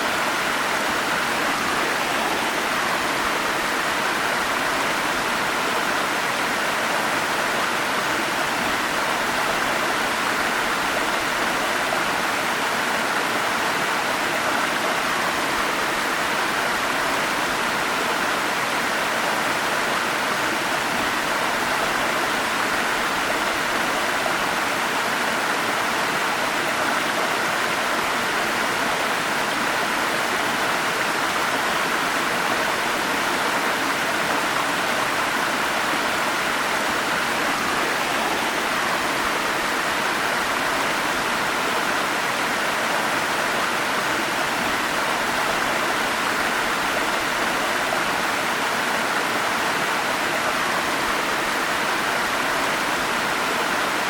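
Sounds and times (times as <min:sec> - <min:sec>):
stream and waterfalls rushing: 0:00.0 - 0:54.0.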